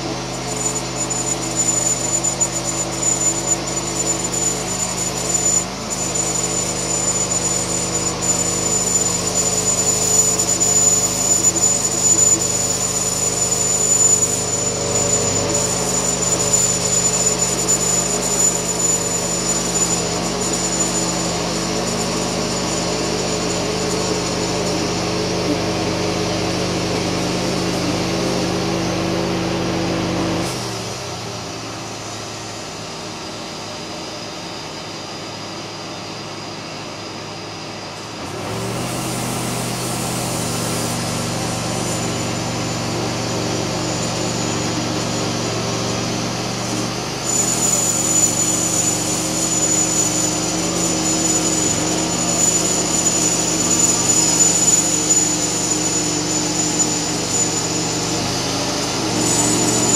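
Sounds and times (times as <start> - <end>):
sawmill engine running under load: 0.0 - 59.9
thin high whine: 0.0 - 59.9.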